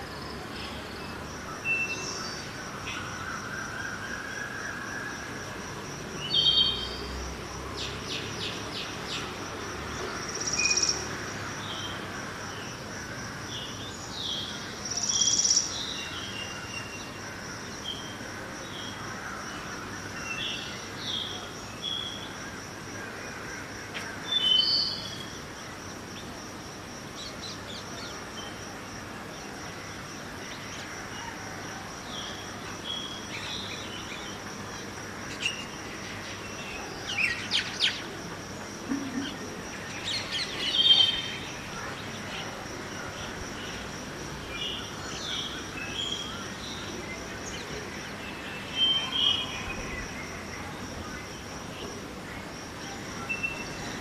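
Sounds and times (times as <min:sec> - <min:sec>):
distant city traffic hum: 0:04.4 - 0:54.0.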